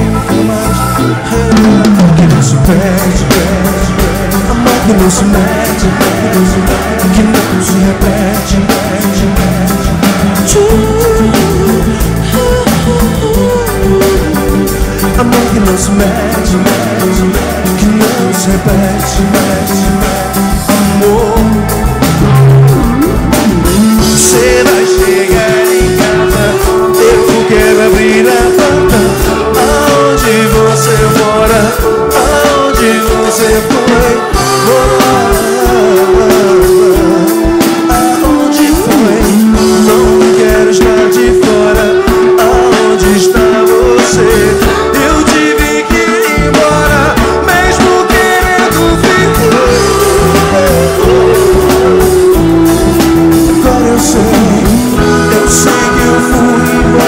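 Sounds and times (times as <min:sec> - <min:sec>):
person singing: 0:00.0 - 0:57.0
reggae band playing live: 0:00.0 - 0:57.0.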